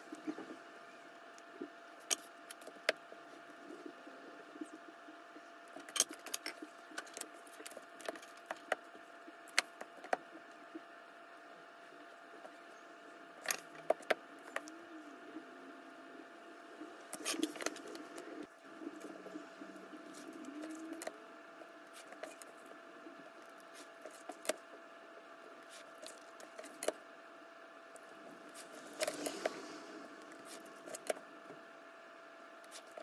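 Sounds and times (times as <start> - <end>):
steady faint hum: 0.0 - 33.0.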